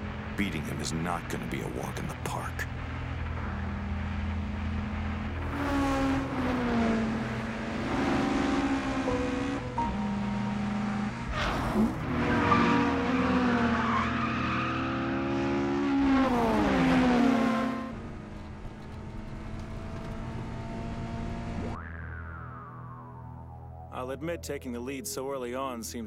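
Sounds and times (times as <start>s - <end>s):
sports car engines revving: 0.0s - 21.8s
engine humming: 0.0s - 25.1s.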